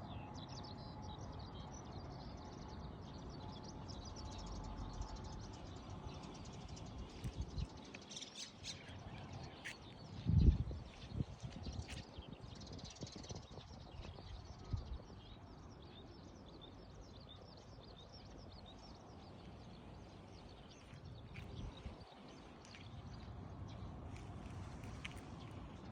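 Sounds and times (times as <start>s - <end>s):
small birds chirping: 2.3s - 25.9s.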